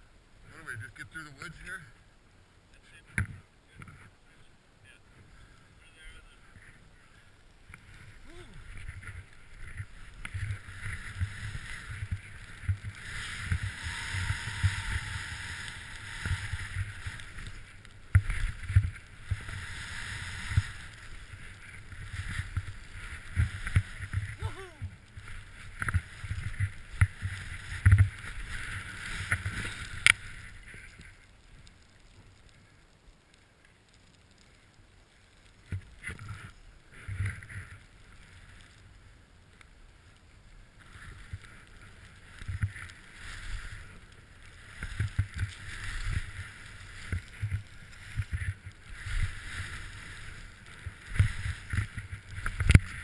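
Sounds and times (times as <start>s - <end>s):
skis scraping over snow: 3.9s - 53.0s.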